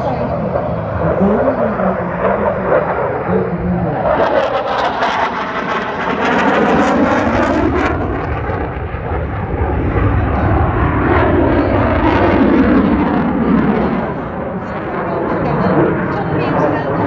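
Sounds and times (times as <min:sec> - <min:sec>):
jet engine whoosh: 0:00.0 - 0:17.0.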